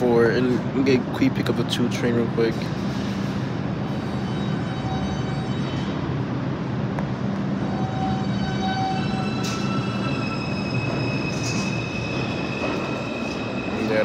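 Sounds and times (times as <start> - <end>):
subway train wheels and motors: 0.0 - 14.0.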